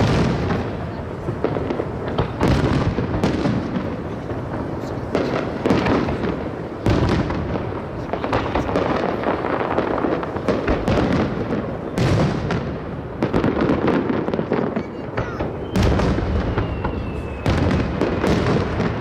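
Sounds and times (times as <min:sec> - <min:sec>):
fireworks crackle: 0:00.0 - 0:19.0
fireworks exploding: 0:00.0 - 0:19.0.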